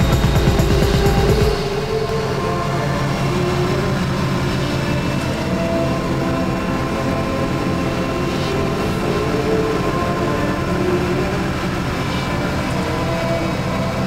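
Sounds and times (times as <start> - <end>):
diesel engine drone in cab: 0.0 - 14.0.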